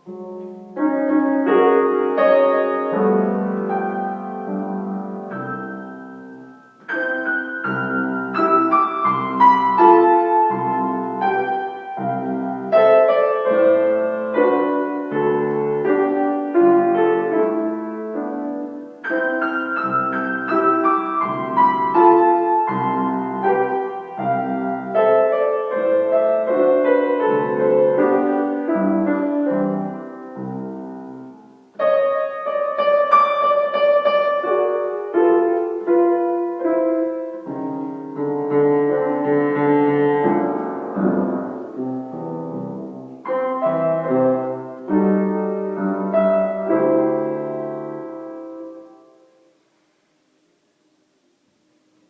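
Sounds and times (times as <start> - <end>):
solo piano: 0.0 - 52.0.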